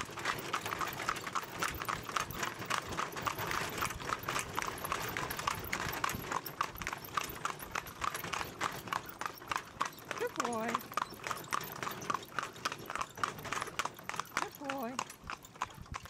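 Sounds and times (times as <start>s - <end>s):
pony hoofbeats on tarmac: 0.0s - 16.0s.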